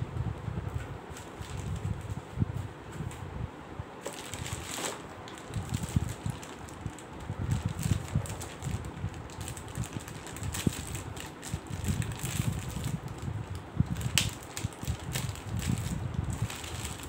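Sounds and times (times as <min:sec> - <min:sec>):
low rumble on microphone: 0:00.0 - 0:04.8, 0:05.4 - 0:17.0
plastic crinkling and rustling: 0:00.7 - 0:02.3, 0:04.0 - 0:17.0.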